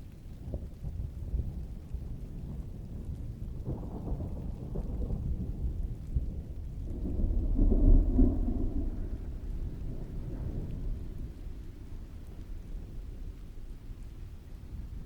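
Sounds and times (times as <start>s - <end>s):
steady rain: 0.0s - 15.0s
rolling thunder: 0.5s - 15.0s.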